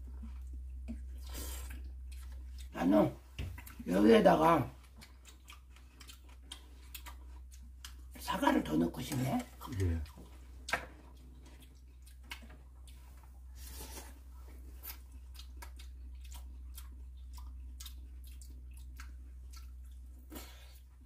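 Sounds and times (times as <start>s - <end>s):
soft chewing: 0.0s - 21.0s
steady low hum: 0.0s - 21.0s.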